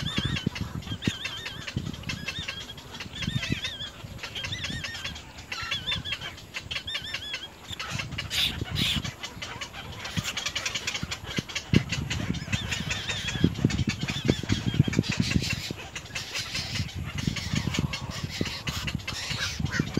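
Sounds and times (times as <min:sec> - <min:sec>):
bird warbling phrases: 0:00.0 - 0:19.9
rapid clicking bird calls: 0:00.0 - 0:19.9.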